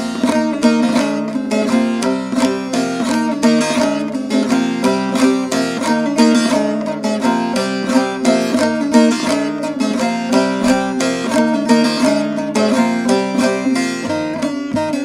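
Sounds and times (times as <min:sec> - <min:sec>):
saz fast plucked notes: 0:00.0 - 0:15.0.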